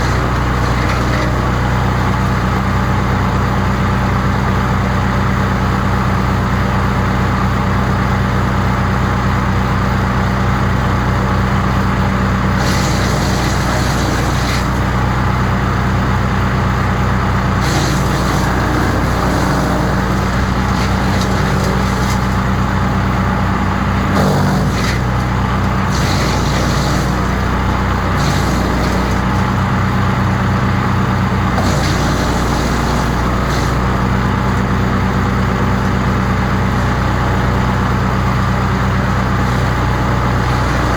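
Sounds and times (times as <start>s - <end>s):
wood chipper engine running: 0.0s - 40.9s.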